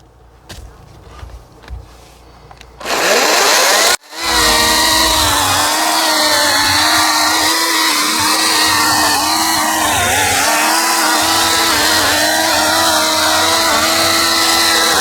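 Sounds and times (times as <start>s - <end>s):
electric chainsaw cutting log: 2.8s - 15.0s.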